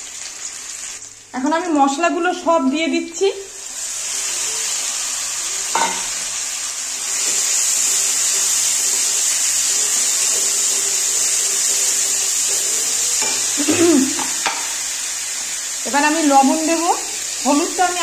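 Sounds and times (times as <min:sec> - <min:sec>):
spices sizzling in hot oil: 0:00.0 - 0:18.0.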